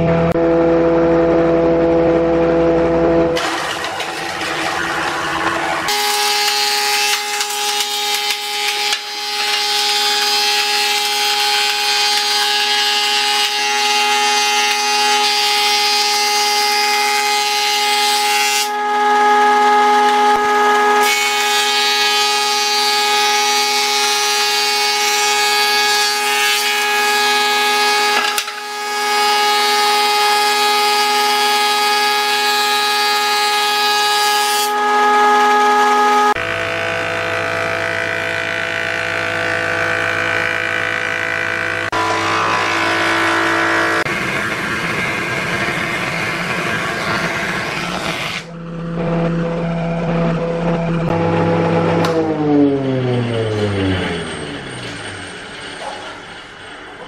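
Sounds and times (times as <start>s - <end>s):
planer motor whine: 0.0s - 57.0s.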